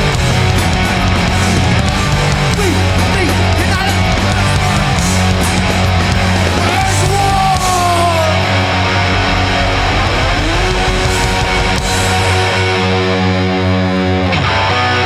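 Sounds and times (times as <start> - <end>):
punk band playing live: 0.0 - 15.0.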